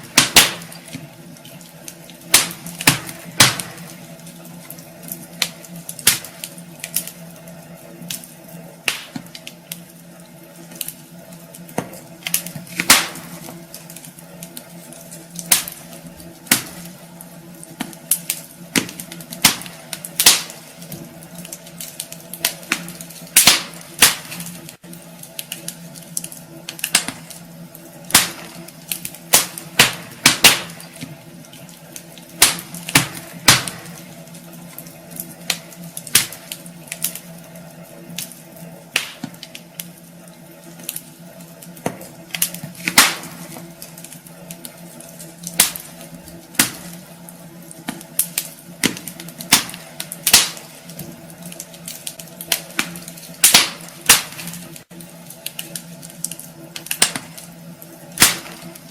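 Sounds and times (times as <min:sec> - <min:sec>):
steady low hum: 0:00.0 - 0:58.9
wood fire crackling and popping: 0:00.0 - 0:58.9.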